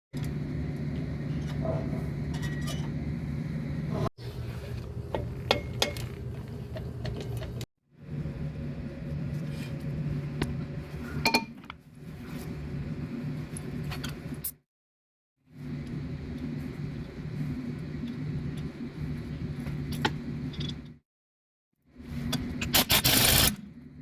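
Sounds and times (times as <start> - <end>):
low mechanical hum: 0.2 - 14.5, 15.6 - 21.0.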